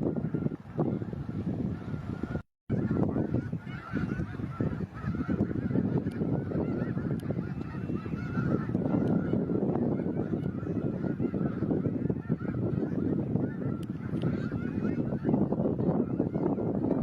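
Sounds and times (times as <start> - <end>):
geese honking: 0.1 - 17.0.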